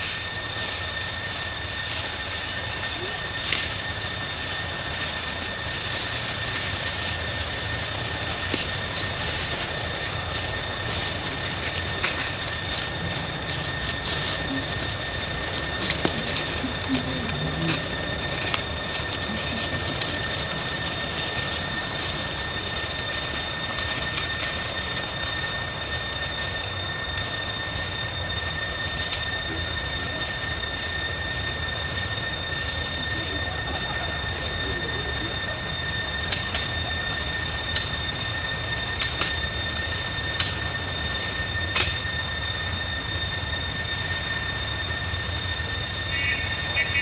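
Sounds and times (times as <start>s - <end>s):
insect drone: 0.0s - 47.0s.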